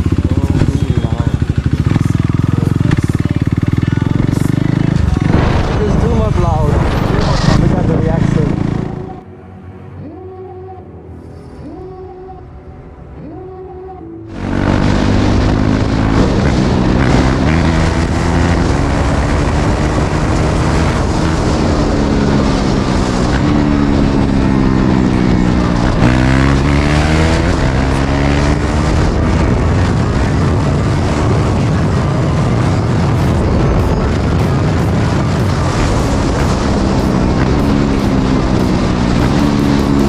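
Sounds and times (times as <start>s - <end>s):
loud motorcycle engine revving: 0.0s - 9.2s, 14.3s - 40.0s.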